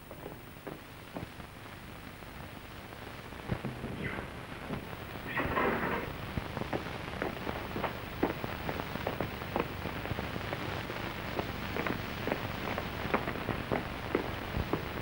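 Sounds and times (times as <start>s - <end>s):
film soundtrack hiss and pops: 0.0s - 15.0s.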